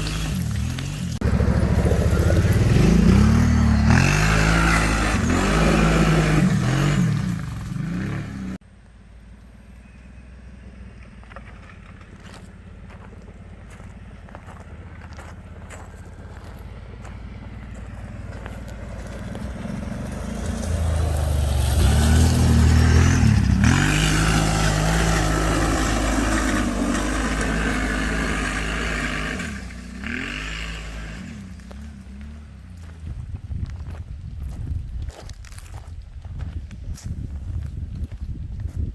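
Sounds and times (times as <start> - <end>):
atv engine climbing hill: 0.0 - 38.9.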